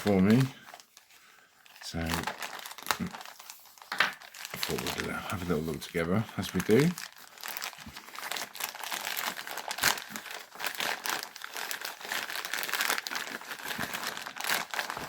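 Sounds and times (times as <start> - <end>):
packaging tearing: 0.0 - 5.8, 6.4 - 15.0
packaging crinkling: 0.0 - 15.0.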